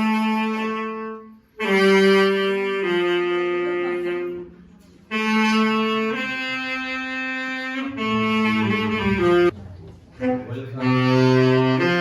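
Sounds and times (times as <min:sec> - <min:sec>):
saxophone slow melody: 0:00.0 - 0:09.6, 0:10.2 - 0:12.0.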